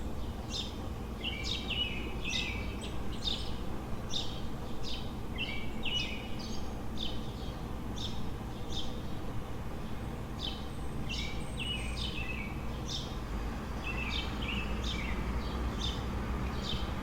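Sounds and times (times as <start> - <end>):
city background rumble: 0.0 - 17.0
songbirds chirping: 0.0 - 17.0.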